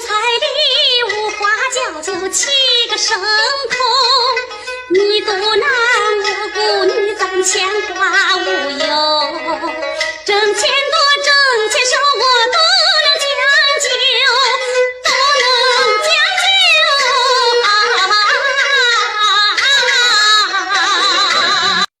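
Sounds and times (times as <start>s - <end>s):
instrumental accompaniment: 0.0s - 21.9s.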